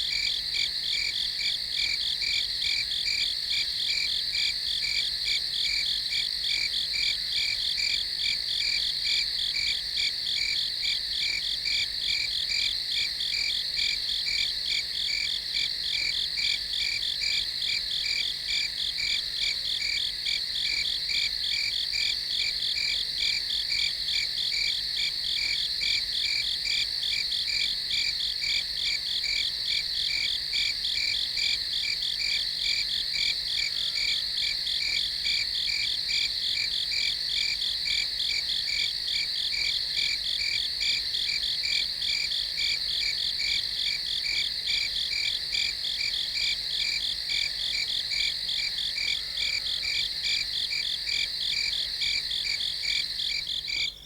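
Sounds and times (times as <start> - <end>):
crickets chirping: 0.1 - 54.0.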